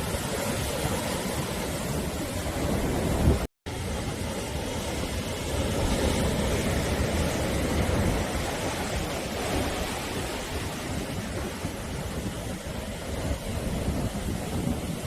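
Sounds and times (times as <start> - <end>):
waves washing onto shore: 0.0 - 15.0.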